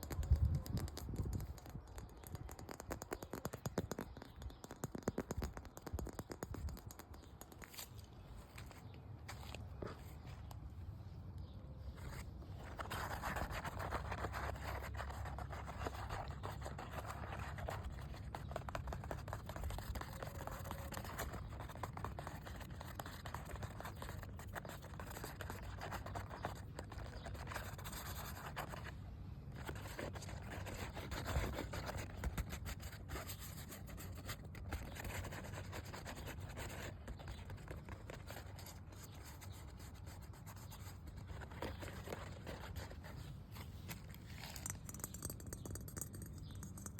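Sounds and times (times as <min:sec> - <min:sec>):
scratching on a hard surface: 0:00.0 - 0:10.6, 0:11.8 - 0:46.9.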